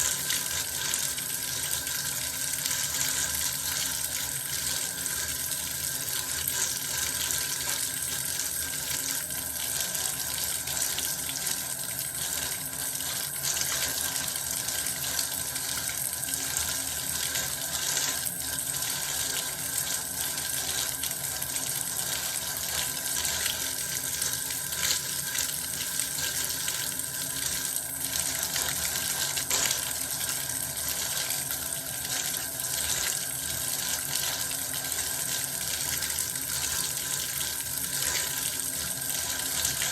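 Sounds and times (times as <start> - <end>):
tap water running into bath: 0.0 - 39.9.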